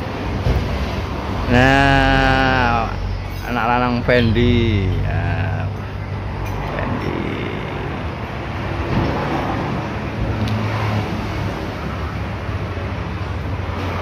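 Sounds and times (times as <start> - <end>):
passing vehicles and tyre noise: 0.0 - 14.0.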